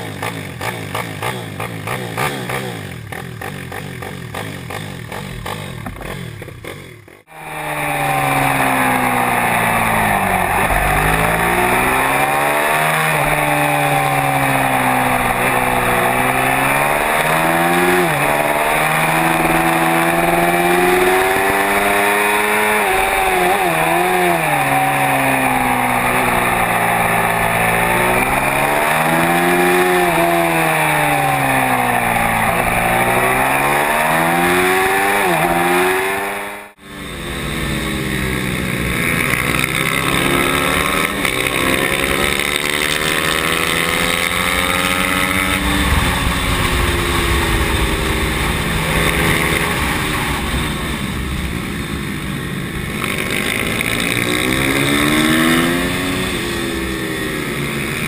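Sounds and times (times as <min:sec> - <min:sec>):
pit bike engine revving: 0:00.0 - 0:58.0
wind and road noise: 0:00.0 - 0:58.0.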